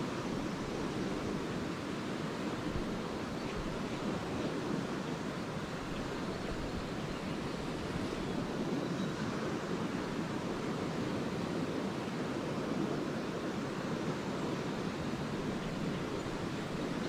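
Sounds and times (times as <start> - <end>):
lake waves washing on shore: 0.0 - 17.0.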